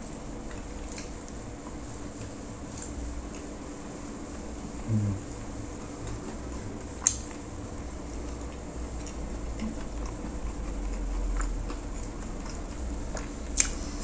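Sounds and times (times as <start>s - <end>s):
wet chewing sounds: 0.0s - 3.7s, 5.4s - 14.0s.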